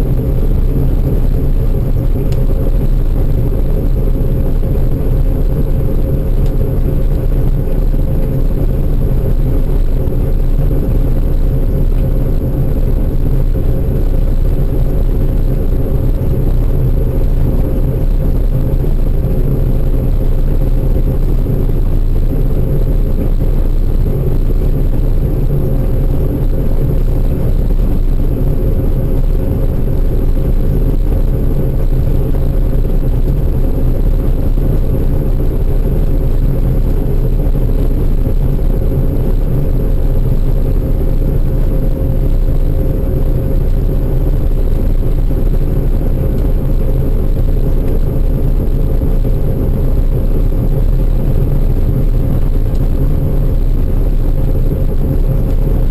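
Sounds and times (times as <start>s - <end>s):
farm machinery engine droning: 0.0s - 55.9s.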